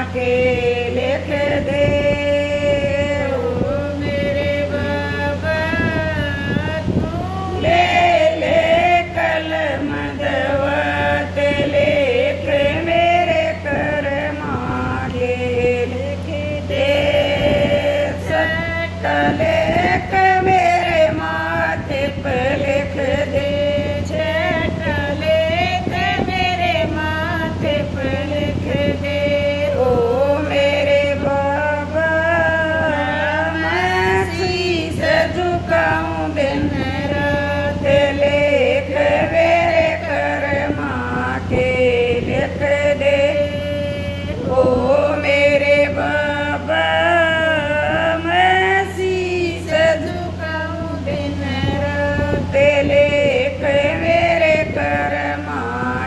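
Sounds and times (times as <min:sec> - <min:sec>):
woman singing devotional song: 0:00.0 - 0:56.0.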